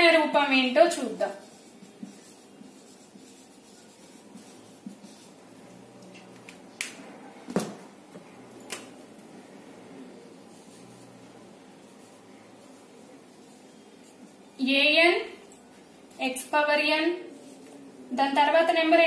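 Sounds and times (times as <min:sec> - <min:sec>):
marker pen on whiteboard: 0:00.0 - 0:19.0.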